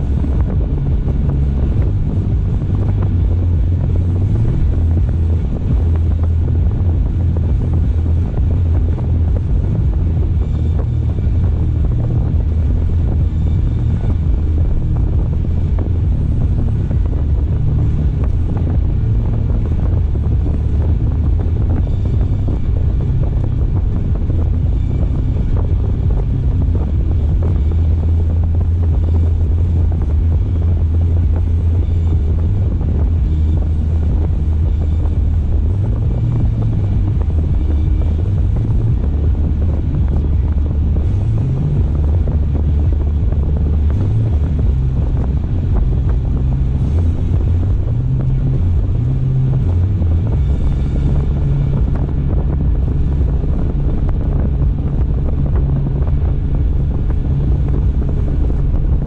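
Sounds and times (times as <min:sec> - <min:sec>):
car driving rumble: 0:00.0 - 0:59.0
tyre and wind noise: 0:00.0 - 0:59.0.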